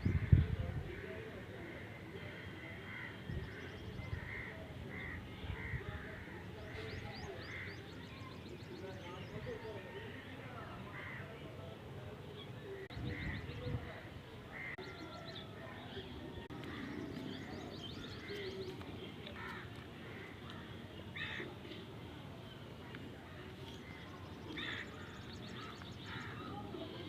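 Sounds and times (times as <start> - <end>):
small birds chirping and trilling: 1.7 - 11.2, 12.3 - 21.5, 22.4 - 27.0.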